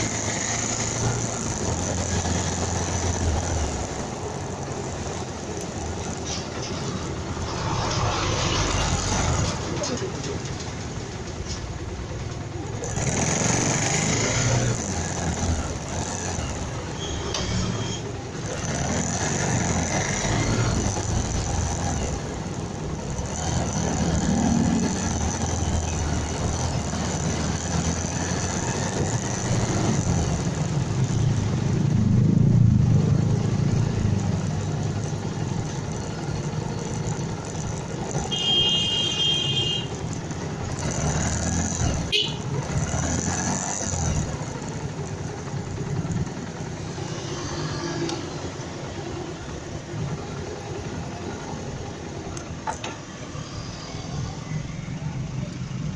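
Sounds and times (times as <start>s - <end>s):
motorcycle engine rumble: 0.0s - 55.9s.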